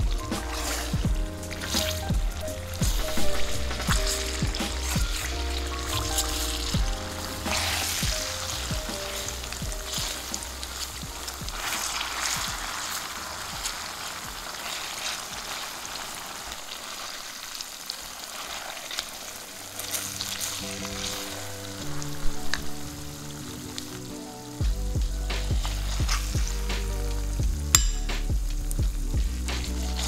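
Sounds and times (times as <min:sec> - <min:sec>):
paste sizzling in oil: 0:00.2 - 0:24.6.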